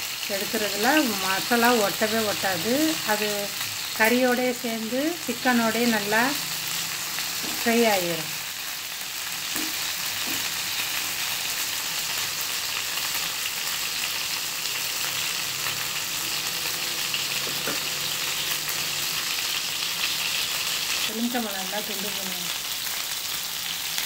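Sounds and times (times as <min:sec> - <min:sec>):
chicken frying in hot oil: 0:00.0 - 0:24.0.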